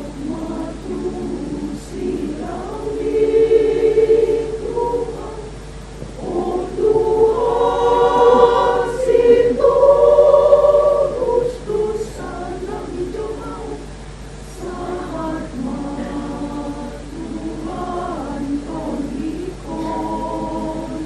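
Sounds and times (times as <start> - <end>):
women's choir singing in harmony: 0.0 - 21.0.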